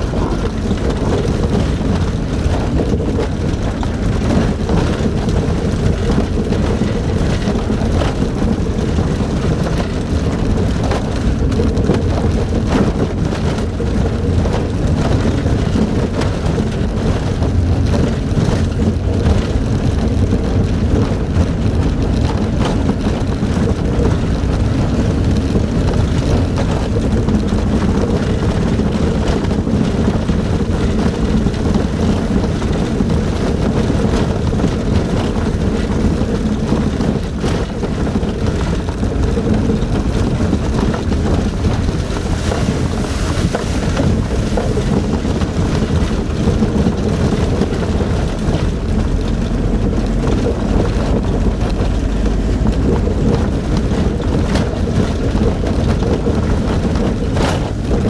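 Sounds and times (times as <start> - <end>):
truck engine and tyre rumble: 0.0 - 58.0.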